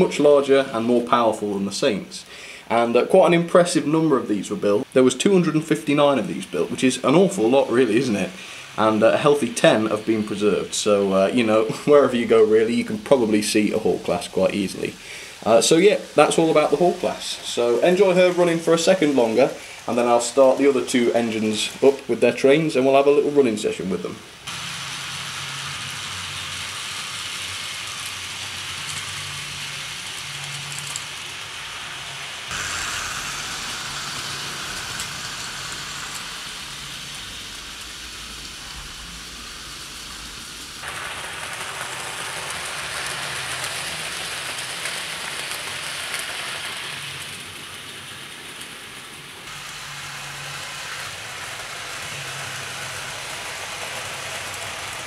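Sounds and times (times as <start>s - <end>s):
model train running on track: 0.0s - 55.0s.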